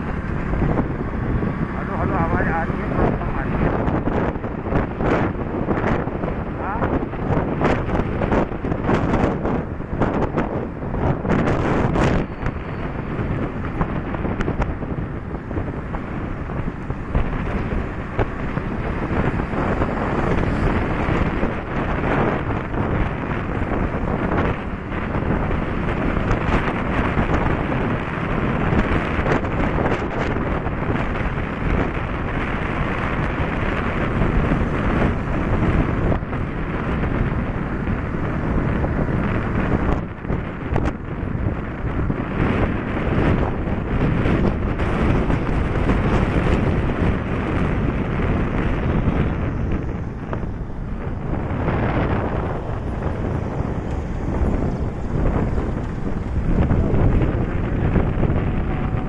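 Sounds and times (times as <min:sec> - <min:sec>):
road and engine noise: 0:00.0 - 0:59.0
wind buffeting microphone: 0:00.0 - 0:59.0.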